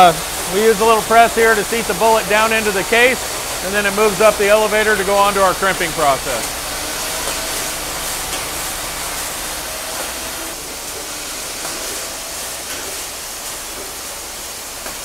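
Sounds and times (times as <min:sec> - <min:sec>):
factory machinery hissing: 0:00.0 - 0:15.0.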